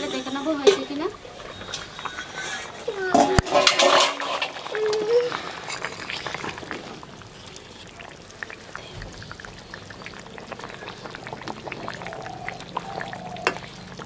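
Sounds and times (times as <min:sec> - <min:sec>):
curry simmering with popping bubbles: 0:00.0 - 0:14.0.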